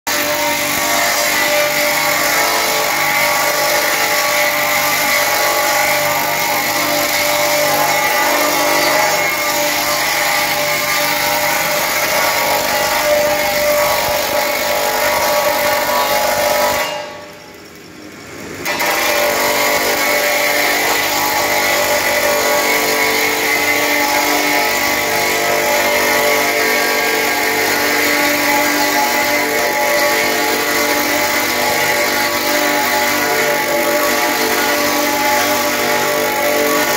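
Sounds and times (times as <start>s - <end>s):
grinder grinding steel: 0.1s - 17.6s, 18.5s - 36.9s.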